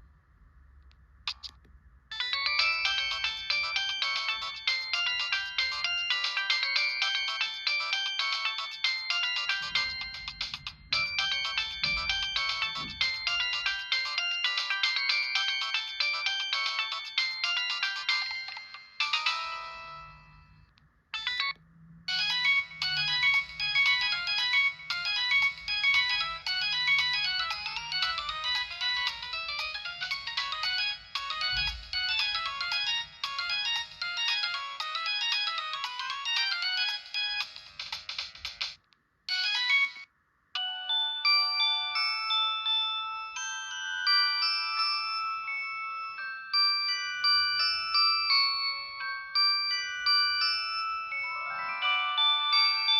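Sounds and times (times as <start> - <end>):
synthesized phone ringtone: 2.1 - 38.6, 39.3 - 52.9.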